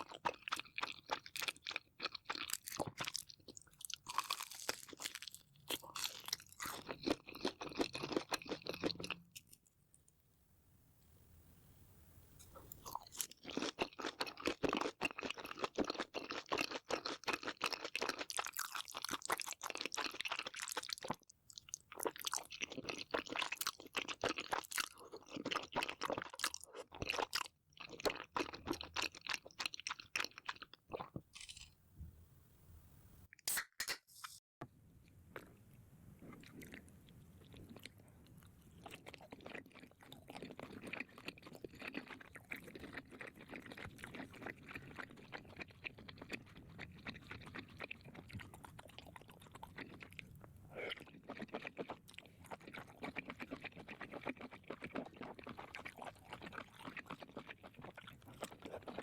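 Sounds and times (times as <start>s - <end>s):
person chewing crunchy food: 0.0s - 9.6s, 12.4s - 31.8s, 35.3s - 59.0s.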